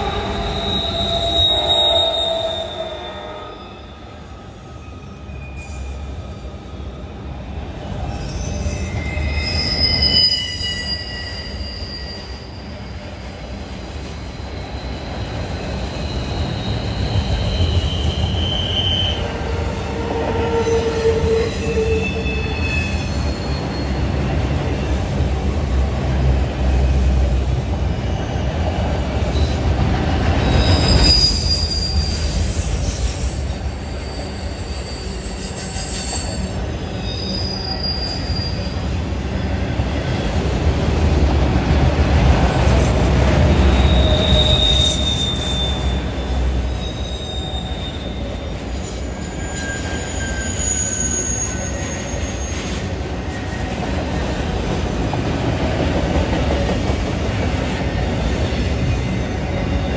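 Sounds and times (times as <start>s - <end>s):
high-pitched wheel squeals: 0.0s - 25.3s, 29.2s - 40.4s, 42.0s - 54.6s
train wheels rumbling on rail: 0.0s - 59.9s.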